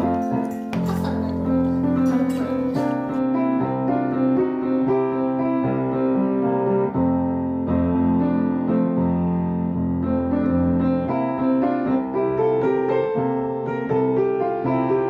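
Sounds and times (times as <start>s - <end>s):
piano music with low bass: 0.0s - 15.0s.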